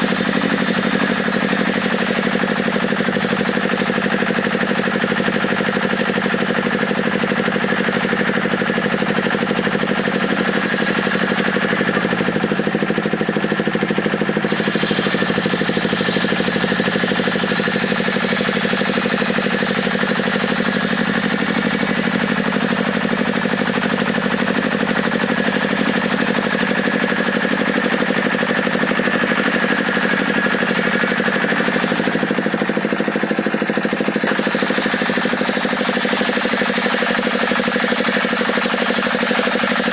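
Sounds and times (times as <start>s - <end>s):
saw engine humming: 0.0s - 39.9s.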